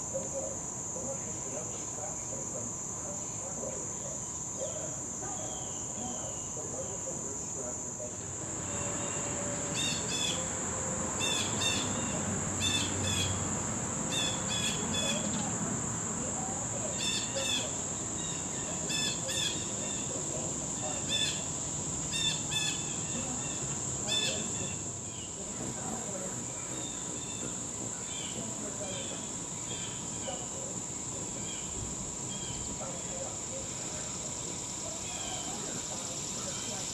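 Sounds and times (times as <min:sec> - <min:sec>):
high-pitched insect drone: 0:00.0 - 0:36.9.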